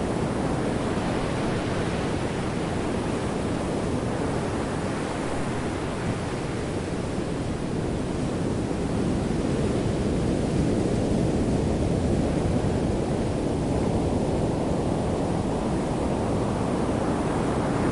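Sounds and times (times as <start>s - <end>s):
underwater rushing of seawater: 0.0s - 17.9s.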